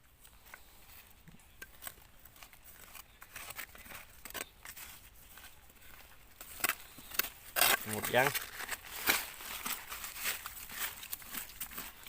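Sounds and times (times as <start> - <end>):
dry leaf litter crackling: 0.3 - 12.0.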